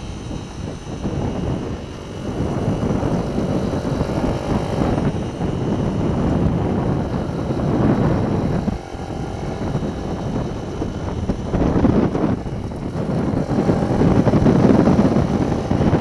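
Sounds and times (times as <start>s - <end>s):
mini-bike engine running: 0.0s - 16.0s
wind buffeting microphone: 0.0s - 16.0s.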